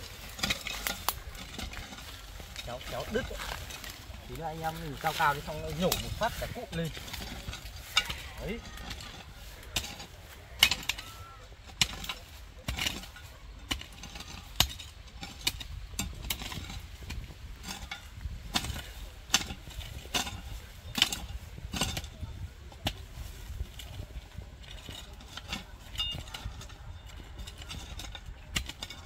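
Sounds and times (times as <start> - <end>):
hoe chopping and scraping soil: 0.0 - 29.0.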